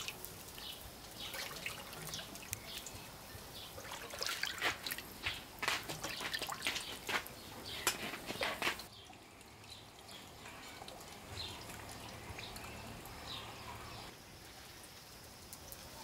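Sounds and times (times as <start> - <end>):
liquid splashing in a bowl: 0.0 - 13.3.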